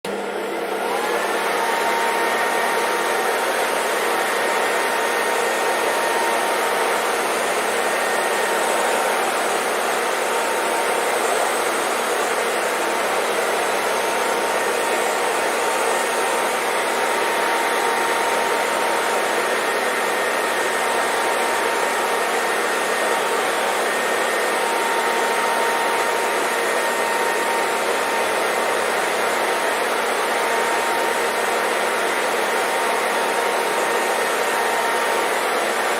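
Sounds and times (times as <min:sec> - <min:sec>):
hair dryer blowing: 0:00.0 - 0:35.9.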